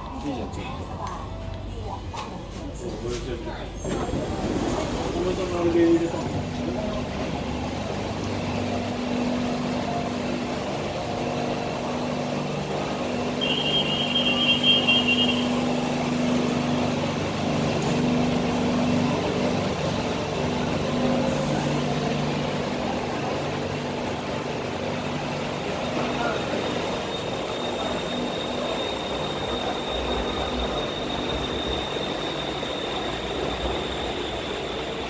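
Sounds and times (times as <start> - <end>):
train humming at platform: 0.0 - 35.0.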